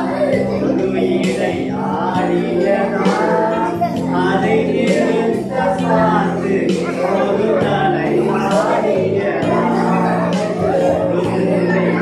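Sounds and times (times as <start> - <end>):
man and children singing: 0.0 - 12.0
musical accompaniment: 0.0 - 12.0.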